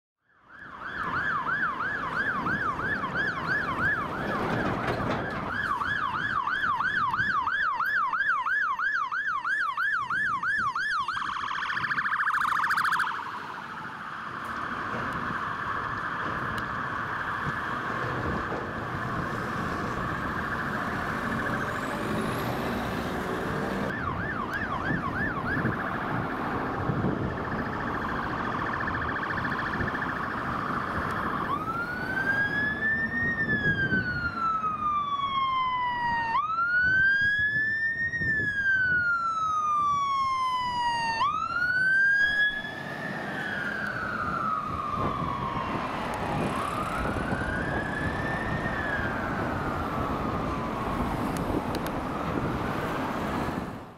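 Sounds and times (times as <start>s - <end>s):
fire engine siren: 0.2s - 53.9s
traffic and engine rumble: 0.6s - 53.9s.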